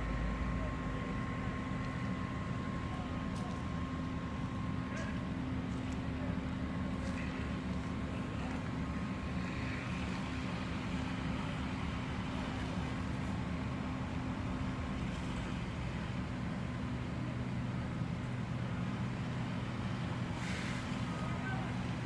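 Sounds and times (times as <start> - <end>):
fire engine running: 0.0 - 22.0.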